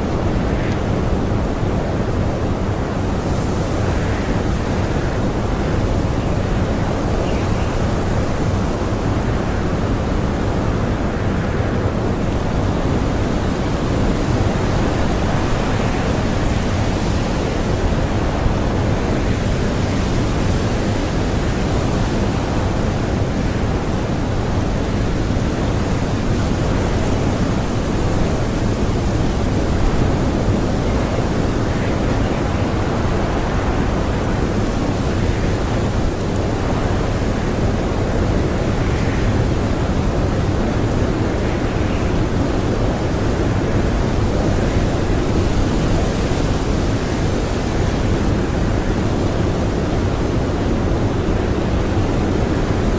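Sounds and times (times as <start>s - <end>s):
blizzard wind blowing: 0.0s - 52.9s.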